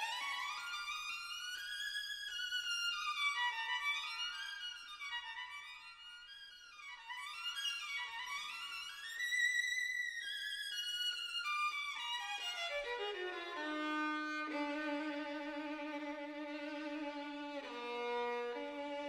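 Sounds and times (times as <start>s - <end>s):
solo violin melody: 0.0s - 19.0s.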